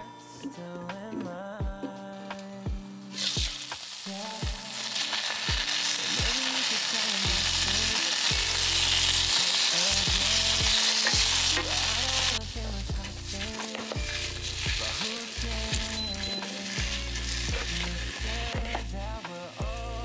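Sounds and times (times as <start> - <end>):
zucchini sizzling in a pan: 3.1 - 20.0.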